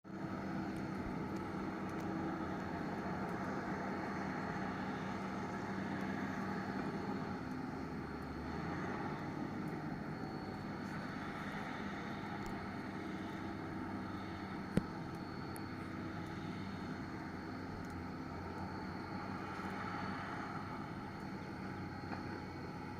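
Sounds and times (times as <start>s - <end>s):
excavator diesel engine running: 0.1s - 22.9s.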